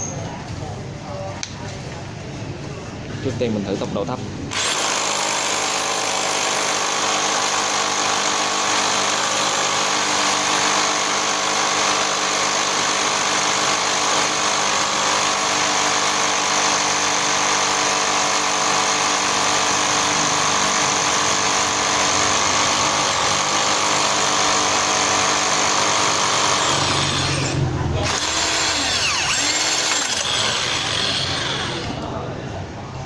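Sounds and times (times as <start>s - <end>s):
hammer drill boring into concrete: 4.5s - 32.1s.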